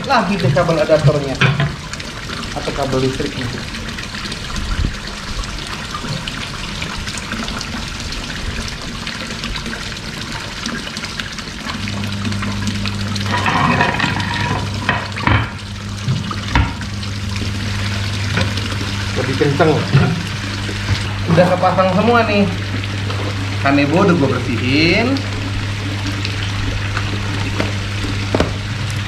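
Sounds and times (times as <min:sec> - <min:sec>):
air pump humming: 0:00.0 - 0:29.0
pond waterfall splashing: 0:00.0 - 0:29.0.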